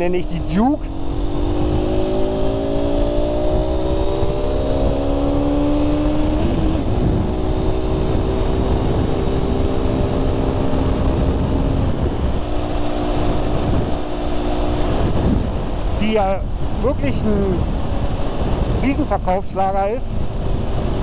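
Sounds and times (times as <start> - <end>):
motorcycle engine running: 0.0 - 18.8
wind on microphone: 0.0 - 21.0.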